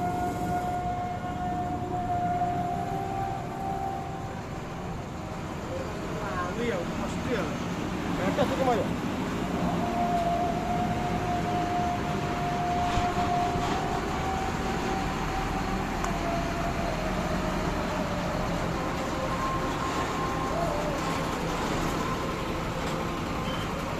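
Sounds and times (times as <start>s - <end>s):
diesel truck engine running: 0.0s - 23.9s.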